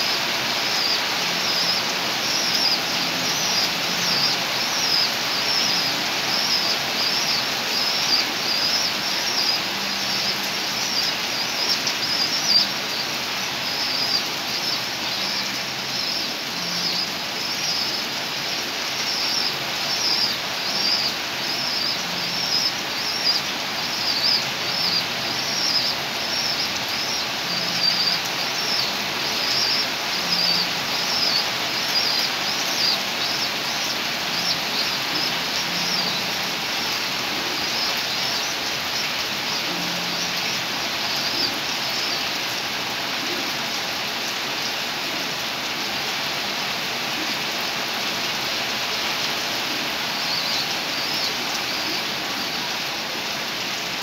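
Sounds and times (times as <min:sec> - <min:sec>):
bird chirping: 0:00.0 - 0:42.4, 0:50.2 - 0:52.6
steady rain hiss: 0:00.0 - 0:54.0.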